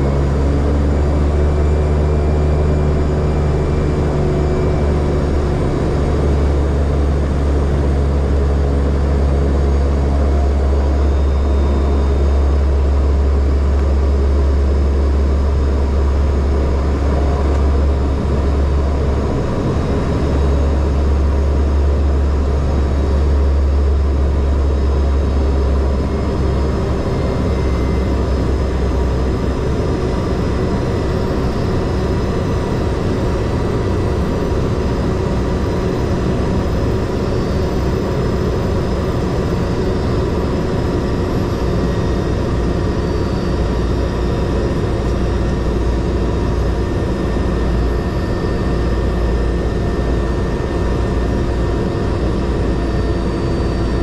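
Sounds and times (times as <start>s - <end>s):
turboprop engine drone in cabin: 0.0s - 54.0s.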